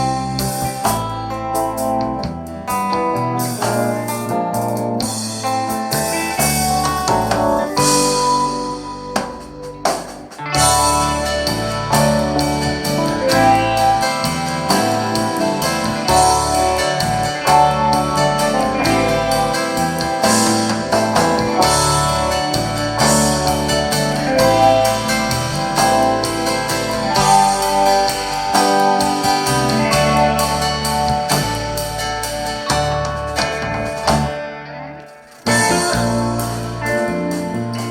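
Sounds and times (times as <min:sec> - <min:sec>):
instrumental music with guitar and piano: 0:00.0 - 0:37.9.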